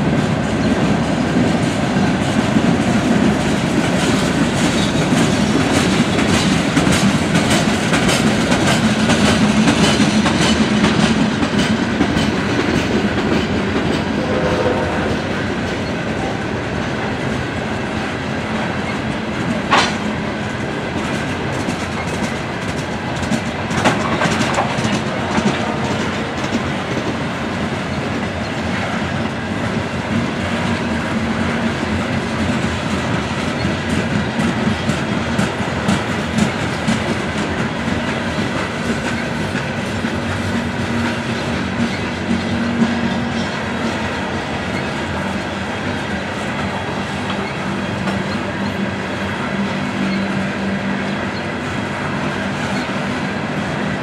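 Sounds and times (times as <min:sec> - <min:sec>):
train wheels rumbling and rattling: 0:00.0 - 0:54.0
wheels clacking over rail joints: 0:00.0 - 0:54.0.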